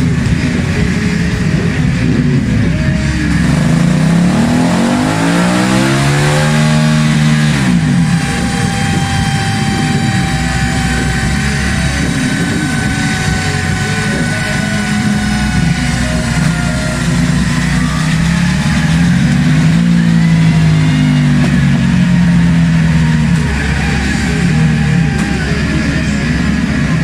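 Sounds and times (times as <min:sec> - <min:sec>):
motorcycle engine revving: 0:00.0 - 0:27.0
steady whine: 0:00.0 - 0:27.0.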